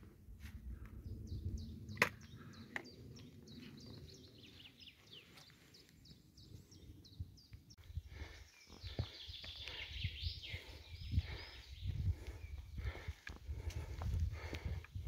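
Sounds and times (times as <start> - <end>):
songbirds chirping and trilling: 0.7 - 15.0.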